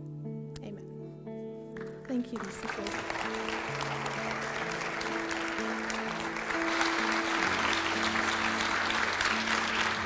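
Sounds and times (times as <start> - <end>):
band playing soft chords: 1.6 - 10.0
congregation applauding: 1.8 - 10.0.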